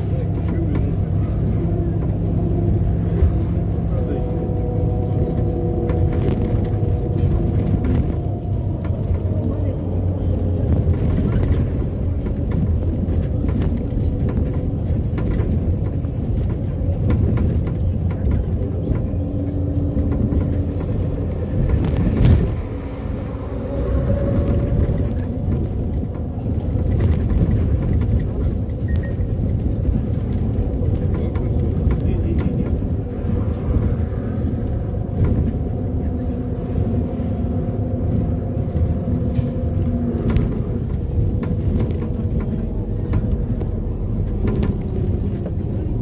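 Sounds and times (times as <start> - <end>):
bus engine and road rumble: 0.0 - 46.0.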